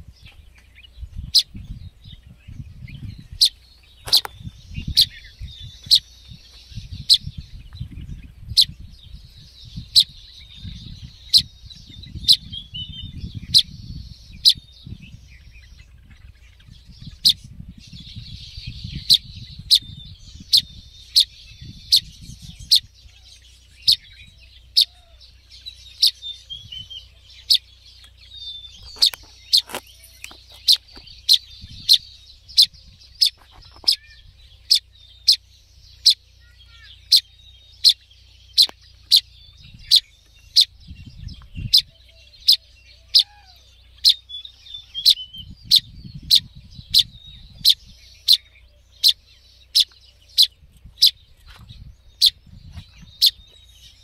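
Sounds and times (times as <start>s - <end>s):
faint bird twittering: 0.0s - 54.0s
fledgling bird chirping: 0.0s - 54.0s.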